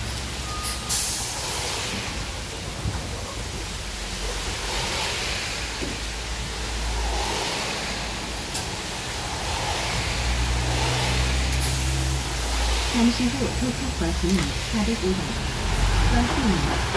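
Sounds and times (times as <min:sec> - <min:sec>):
bus engine idling: 0:00.0 - 0:16.9
rain hissing: 0:00.0 - 0:16.9
wet road noise: 0:00.0 - 0:16.9.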